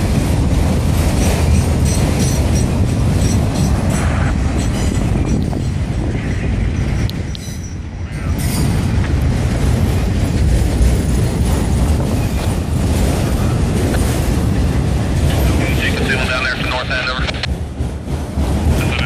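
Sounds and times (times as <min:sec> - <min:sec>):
freight cars clacking and rattling: 0:00.0 - 0:19.0
steel wheels rumbling on rail: 0:00.0 - 0:19.0.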